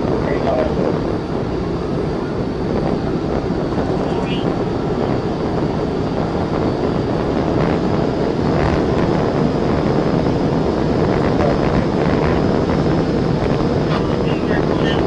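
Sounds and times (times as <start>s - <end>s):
wind and road noise in car: 0.0s - 15.0s.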